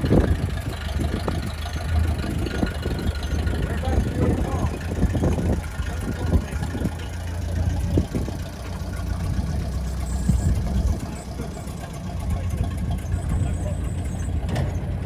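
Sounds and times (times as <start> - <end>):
bus engine idling: 0.0 - 15.0
engine knocks: 0.0 - 15.0.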